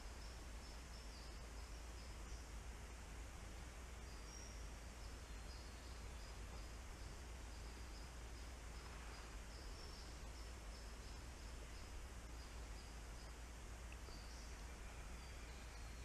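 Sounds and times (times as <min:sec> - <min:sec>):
insect chirping: 0:00.0 - 0:16.0
low hum: 0:00.0 - 0:16.0
steady hiss: 0:00.0 - 0:16.0.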